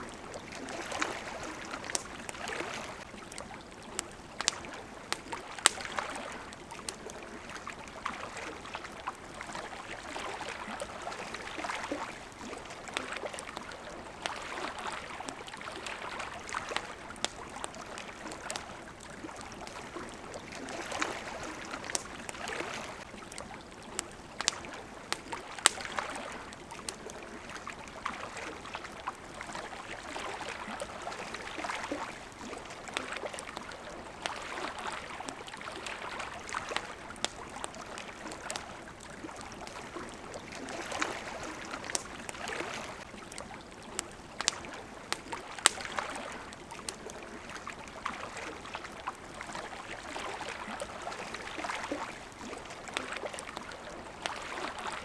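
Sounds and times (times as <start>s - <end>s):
campfire crackling and popping: 0.0s - 54.8s
water lapping: 0.0s - 55.0s.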